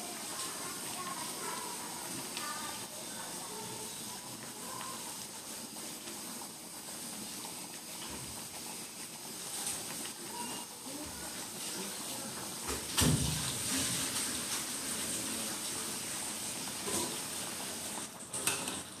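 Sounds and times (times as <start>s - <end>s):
sauce bubbling in a wok: 0.0s - 19.0s.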